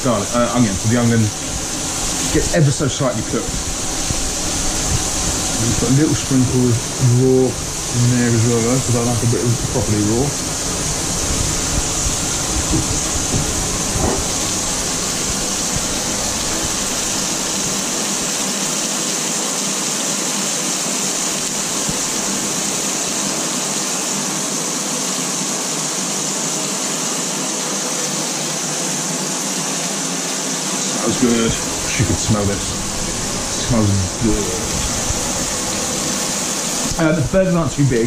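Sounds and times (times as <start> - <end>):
burger patties sizzling in a pan: 0.0 - 38.0.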